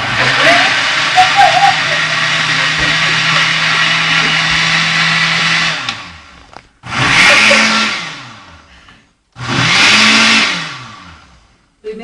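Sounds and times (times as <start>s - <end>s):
electric blender motor running: 0.0s - 8.8s, 9.4s - 11.5s.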